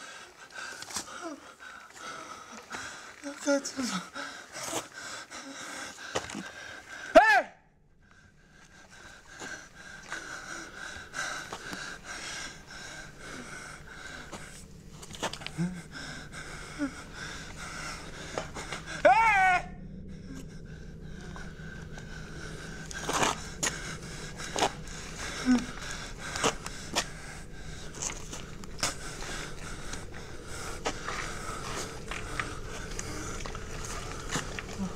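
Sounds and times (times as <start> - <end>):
man breathing hard: 0.0 - 3.2, 3.8 - 7.2, 8.0 - 19.2, 19.8 - 34.9
low background hum: 0.0 - 34.9.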